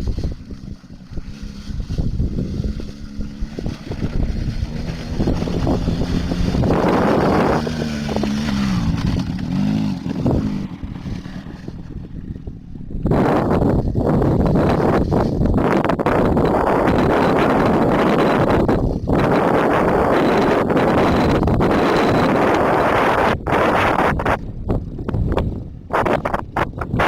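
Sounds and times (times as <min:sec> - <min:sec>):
small atv engine revving: 0:00.0 - 0:25.2.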